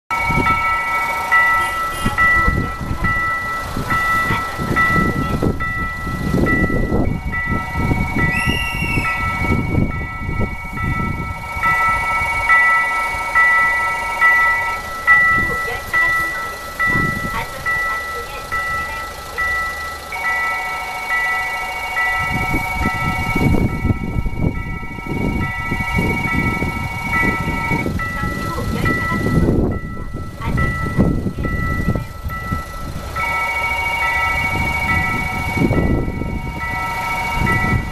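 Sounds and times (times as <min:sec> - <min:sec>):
level crossing warning bell: 0:00.1 - 0:37.9
steady alarm tone: 0:00.1 - 0:37.9.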